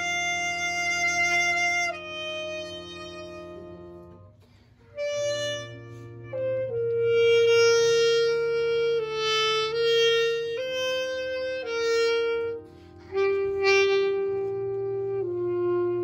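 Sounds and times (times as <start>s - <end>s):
alto saxophone slow melody: 0.0s - 16.0s
sustained accompaniment: 0.0s - 16.0s.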